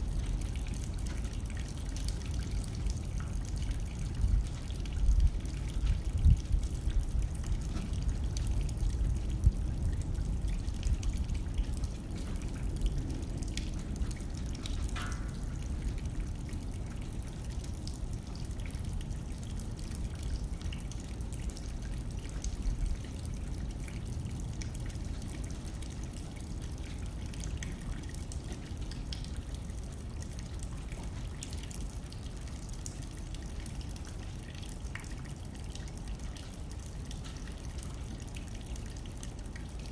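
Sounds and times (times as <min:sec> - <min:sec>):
drips ticking on glass: 0:00.0 - 0:39.9
rain pattering on window: 0:00.0 - 0:39.9.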